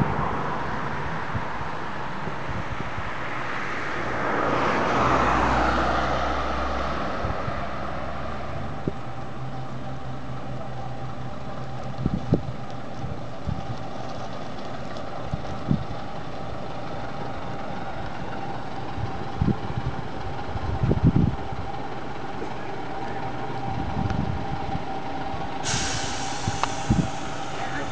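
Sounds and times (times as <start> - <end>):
bus diesel engine idling: 0.0 - 3.5, 6.2 - 27.9.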